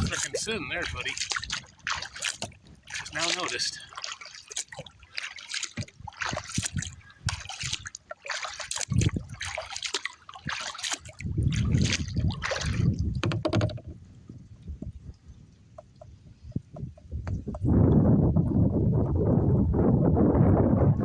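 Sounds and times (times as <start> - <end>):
wind buffeting microphone: 0.0 - 4.0, 4.7 - 21.0
water splashing against kayak: 0.0 - 19.1.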